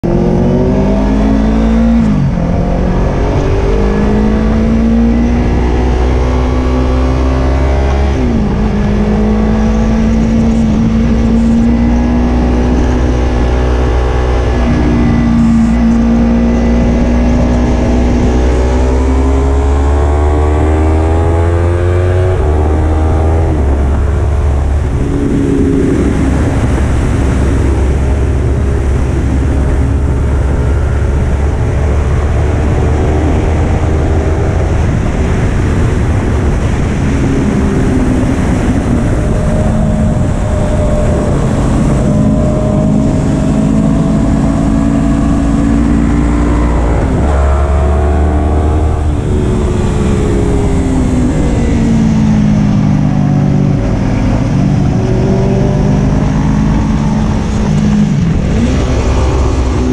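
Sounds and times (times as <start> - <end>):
motorcycle engine accelerating hard: 0.0 - 59.9
wind noise rumble: 0.0 - 59.9.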